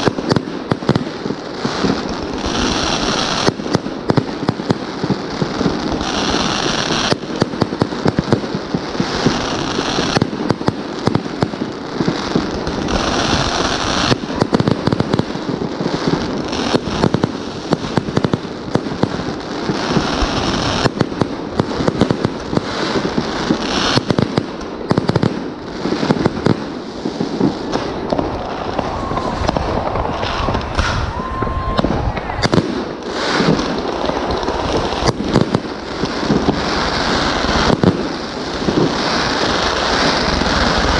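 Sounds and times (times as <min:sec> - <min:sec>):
distant fireworks din: 0:00.0 - 0:40.9
fireworks bursting and crackling: 0:00.0 - 0:40.9
fireworks hissing: 0:00.0 - 0:40.9.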